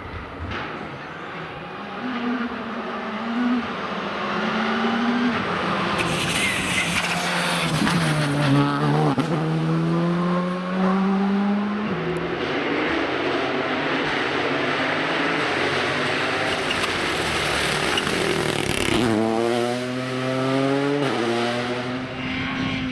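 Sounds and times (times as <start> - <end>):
tyre noise on road: 0.0 - 9.6, 11.8 - 22.9
rally car engine revving: 0.7 - 22.9.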